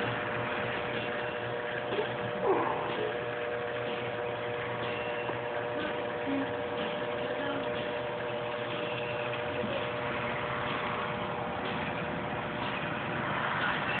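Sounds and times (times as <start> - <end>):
motor hum with two-note drone: 0.0 - 14.0.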